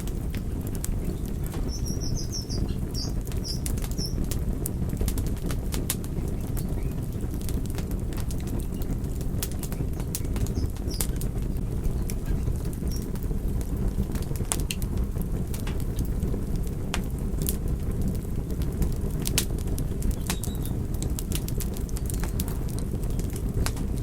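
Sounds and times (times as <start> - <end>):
fire low rushing: 0.0 - 24.0
wood fire crackling and popping: 0.0 - 24.0.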